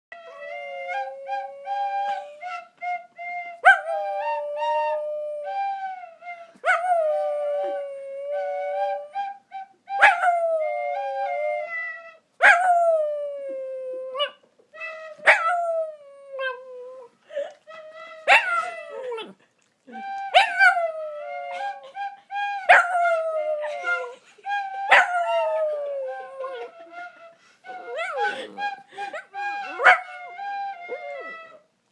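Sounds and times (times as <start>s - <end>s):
flute melody: 0.1s - 19.3s, 19.9s - 31.9s.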